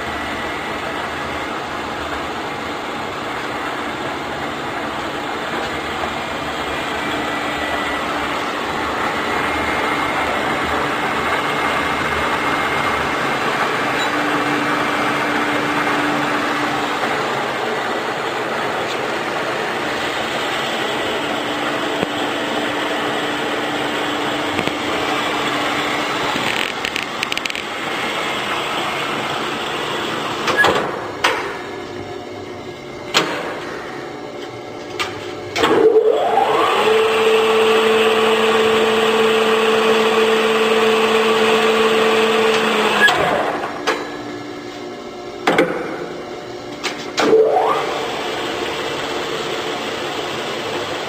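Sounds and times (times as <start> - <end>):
lathe humming and whining: 0.0 - 51.0.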